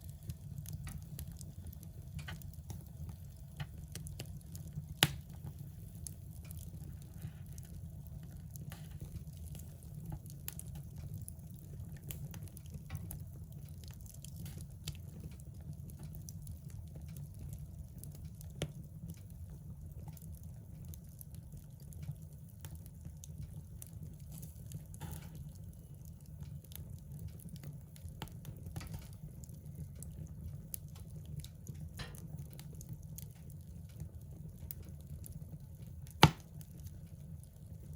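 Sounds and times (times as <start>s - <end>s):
fire crackling and popping: 0.0s - 37.9s
low fire rumble: 0.0s - 37.9s.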